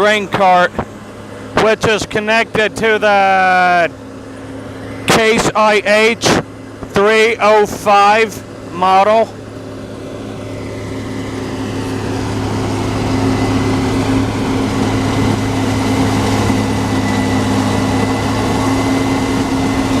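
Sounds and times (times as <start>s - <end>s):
diesel harvest machinery drone: 0.0s - 20.0s.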